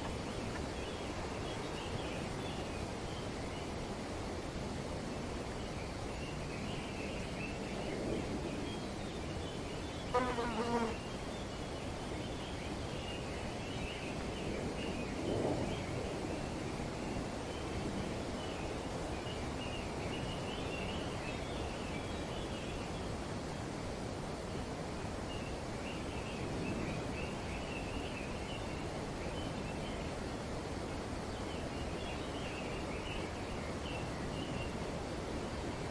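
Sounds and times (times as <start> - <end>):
wind through trees: 0.0 - 35.9.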